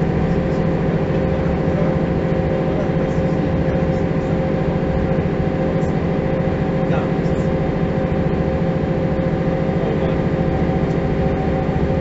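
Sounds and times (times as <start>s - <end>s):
constant whine: 0.0s - 12.0s
diesel bus engine idling: 0.0s - 12.0s.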